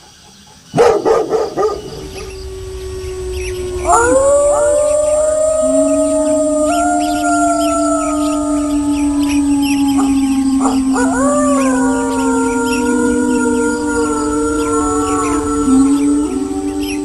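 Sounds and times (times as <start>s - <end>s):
wolves howling: 0.8s - 17.0s.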